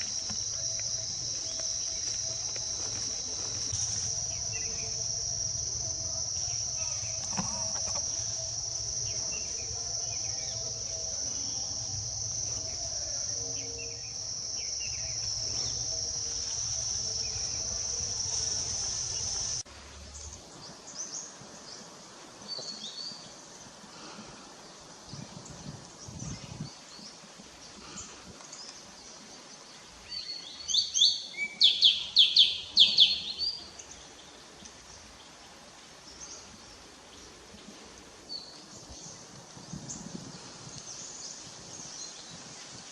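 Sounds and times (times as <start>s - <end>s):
insect drone: 0.0s - 42.9s.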